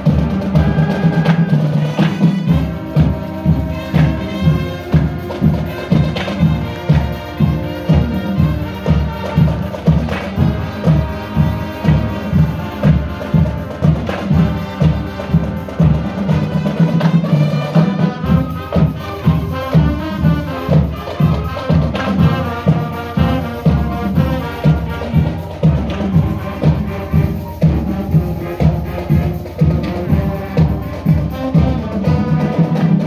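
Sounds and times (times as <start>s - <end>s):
brass band melody: 0.0s - 33.0s
marching drums beating: 0.0s - 33.0s.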